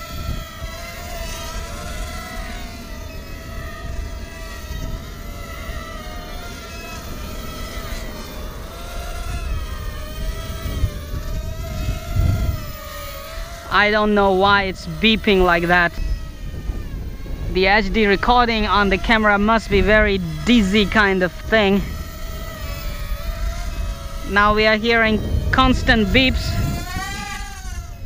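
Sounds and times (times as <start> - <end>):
quadcopter motors whining: 0.0 - 28.0
wind rumbling on microphone: 0.0 - 28.0.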